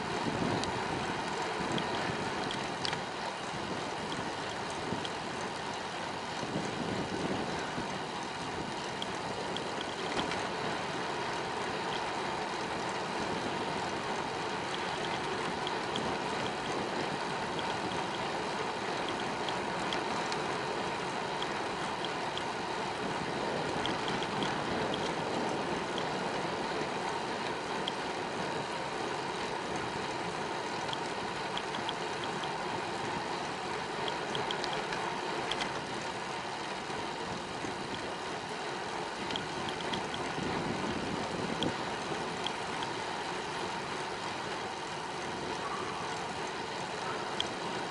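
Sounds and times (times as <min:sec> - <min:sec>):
bicycle tyres on road: 0:00.0 - 0:47.9
faint light ticks: 0:00.2 - 0:47.9.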